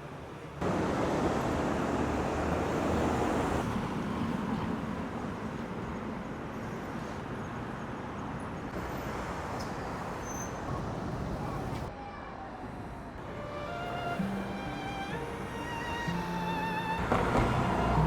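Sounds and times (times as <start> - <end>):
road traffic passing: 0.0 - 11.9, 12.7 - 18.0.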